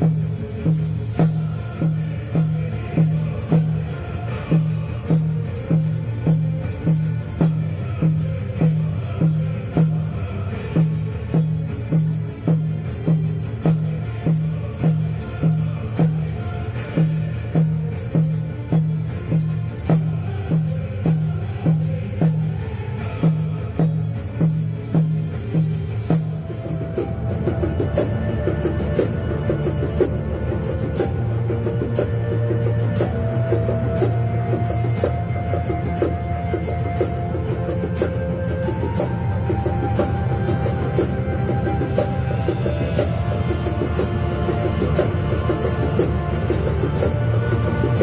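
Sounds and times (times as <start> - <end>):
hand percussion: 0.0 - 48.0.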